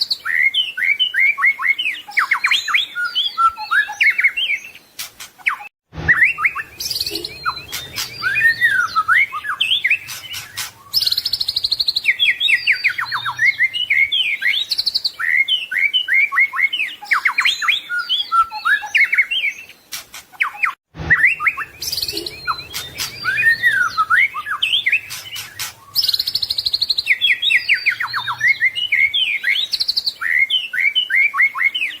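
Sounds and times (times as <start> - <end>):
bird singing whistles and trills: 0.0 - 32.0.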